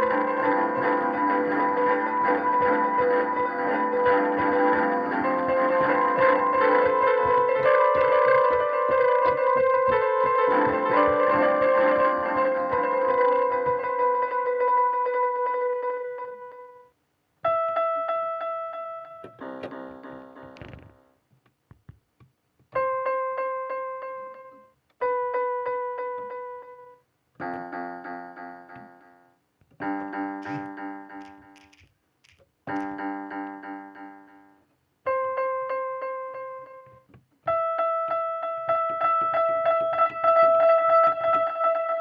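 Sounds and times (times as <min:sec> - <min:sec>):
piano-like keyboard tune: 0:00.0 - 0:21.1, 0:22.7 - 0:31.7, 0:32.7 - 0:42.0.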